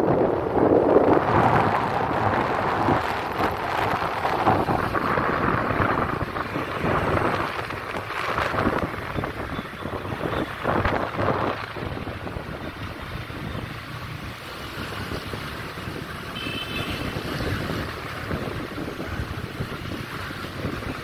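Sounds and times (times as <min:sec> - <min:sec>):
vehicle road noise: 0:00.0 - 0:21.0
wind buffeting microphone: 0:00.0 - 0:21.0.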